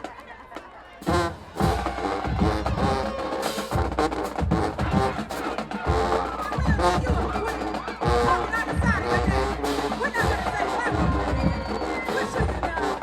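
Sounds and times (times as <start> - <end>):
marching band playing: 0.0 - 13.0
heavy drums: 1.0 - 13.0.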